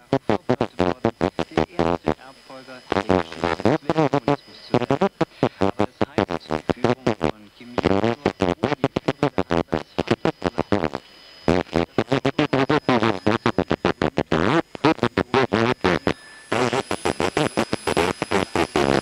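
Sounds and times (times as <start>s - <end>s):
stuttering electronic pulses: 0.0s - 19.0s.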